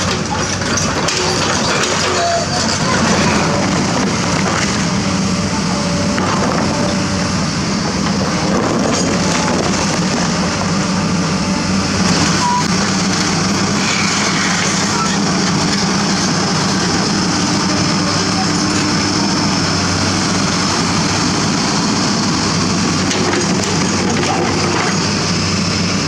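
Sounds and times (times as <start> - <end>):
construction site noise: 0.0 - 26.0
diesel engines of machinery: 0.0 - 26.0.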